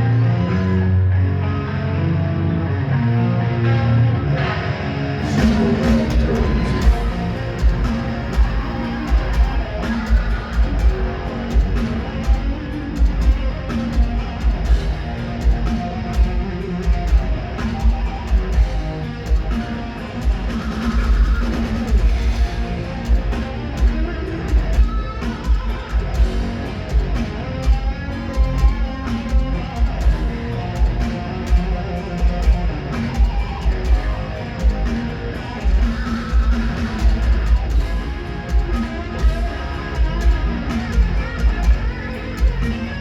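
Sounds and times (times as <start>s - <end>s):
bass guitar: 0.0s - 43.0s
distorted electric guitar: 0.0s - 43.0s.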